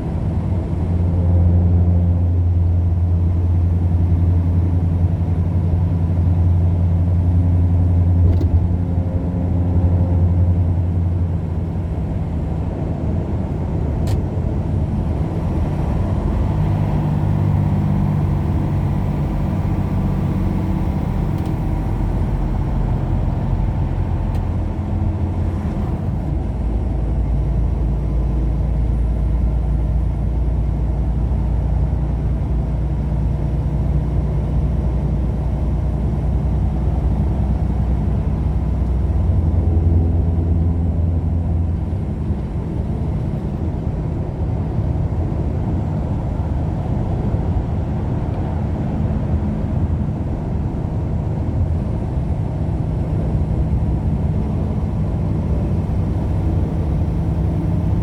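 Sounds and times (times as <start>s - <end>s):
vehicle engine and road drone: 0.0s - 58.0s.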